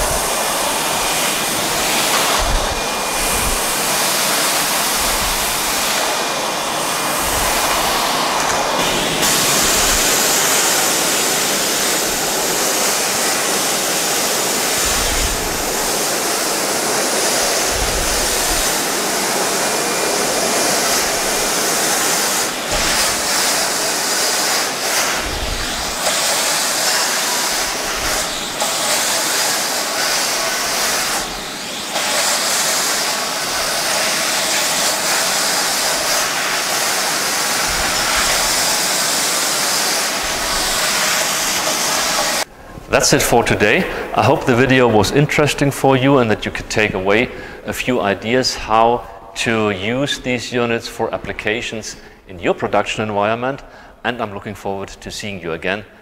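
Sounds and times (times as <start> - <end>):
vacuum cleaner sucking air: 0.0 - 52.3.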